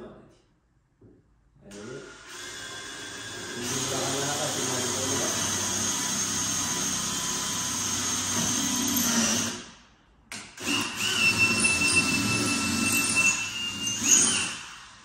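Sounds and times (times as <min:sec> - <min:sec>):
cordless drill boring: 0:01.8 - 0:09.7, 0:10.6 - 0:15.0.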